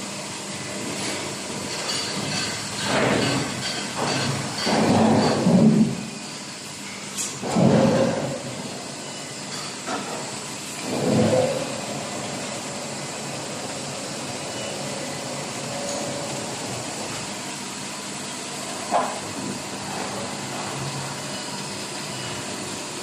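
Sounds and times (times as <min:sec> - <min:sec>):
machine mechanical hum: 0:00.0 - 0:23.0.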